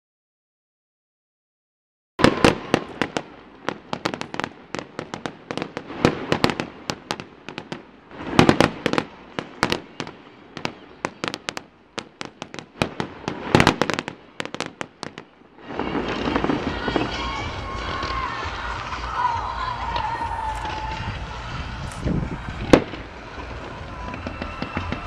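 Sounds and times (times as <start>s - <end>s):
fireworks bangs and crackling: 2.2s - 25.0s.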